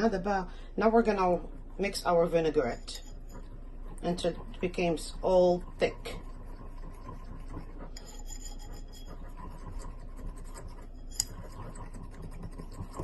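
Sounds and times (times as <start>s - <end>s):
utensil scraping a bowl: 2.4s - 13.0s.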